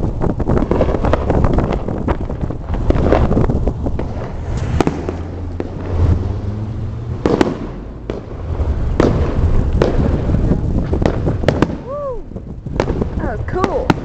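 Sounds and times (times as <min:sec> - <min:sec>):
fireworks bangs: 0:00.0 - 0:14.0
low rumble of wind: 0:00.0 - 0:14.0
car noise: 0:00.2 - 0:11.6.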